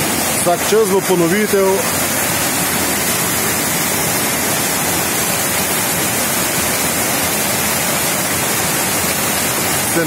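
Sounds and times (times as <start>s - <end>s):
floodwater rushing down a channel: 0.0s - 10.0s.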